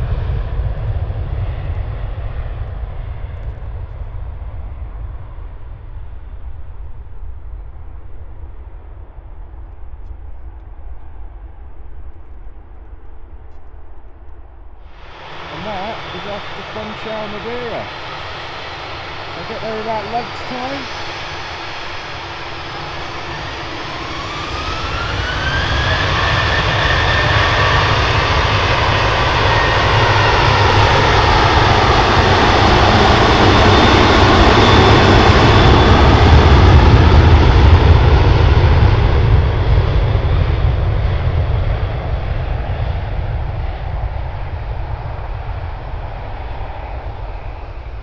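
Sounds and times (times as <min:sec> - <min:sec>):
low rumble of jet take-off: 0:00.0 - 0:48.0
jet engines whining: 0:00.1 - 0:48.0.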